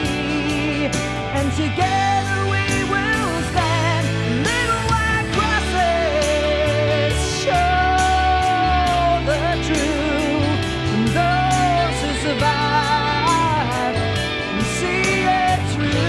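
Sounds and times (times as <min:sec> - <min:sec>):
bass guitar: 0:00.0 - 0:16.0
guitars: 0:00.0 - 0:16.0
wavering lead melody: 0:00.0 - 0:16.0.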